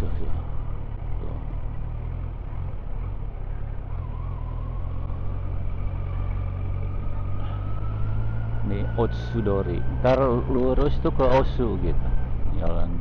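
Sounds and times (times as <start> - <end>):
motorcycle engine accelerating: 0.0 - 13.0
road and wind noise: 0.0 - 13.0.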